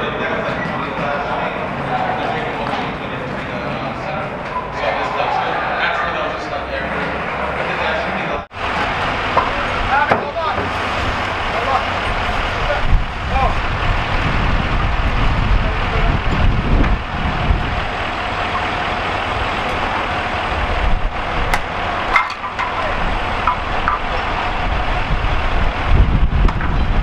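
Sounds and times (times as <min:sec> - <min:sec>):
street traffic: 0:00.0 - 0:27.0
diesel engine idling: 0:05.3 - 0:27.0.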